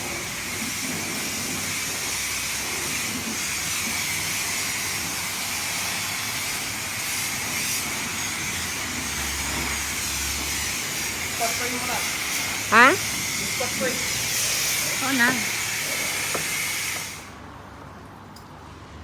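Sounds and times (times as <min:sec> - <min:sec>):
spray wand blasting water: 0:00.0 - 0:17.4.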